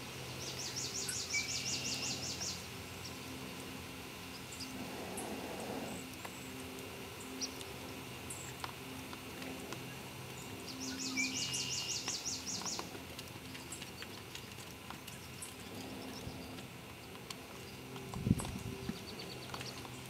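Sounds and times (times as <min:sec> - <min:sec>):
songbird trill: 0:00.1 - 0:20.0.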